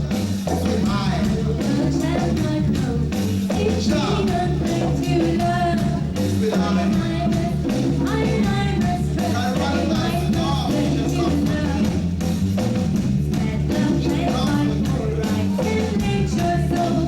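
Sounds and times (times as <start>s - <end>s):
heavy bass line: 0.0s - 17.0s
live reggae band playing: 0.0s - 17.0s.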